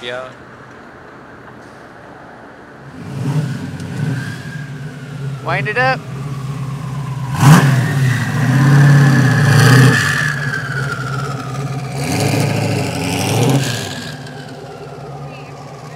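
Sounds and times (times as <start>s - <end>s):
sports car engine revving: 2.9s - 15.9s.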